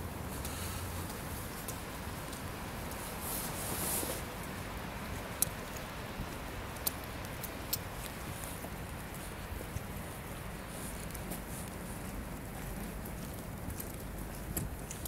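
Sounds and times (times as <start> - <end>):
sharp ticks of raindrops: 0.0 - 15.0
steady rain: 0.0 - 15.0.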